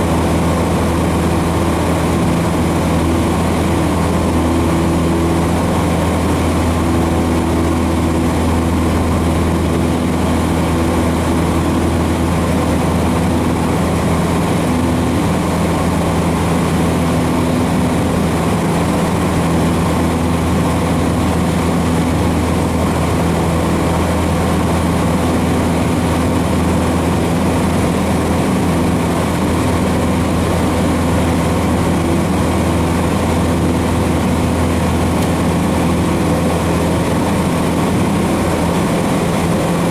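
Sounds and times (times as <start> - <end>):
small plane engine droning: 0.0 - 39.9.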